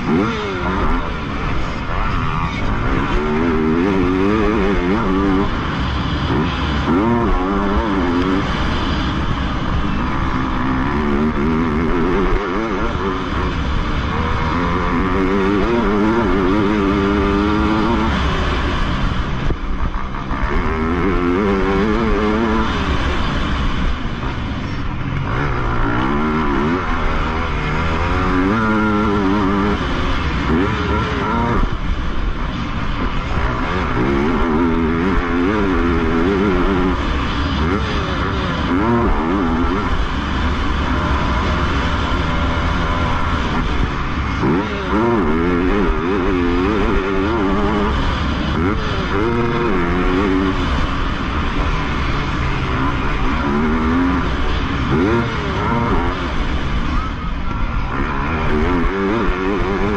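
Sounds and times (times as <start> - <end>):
motocross bike engine revving: 0.0 - 59.9
steady rushing noise: 0.0 - 59.9.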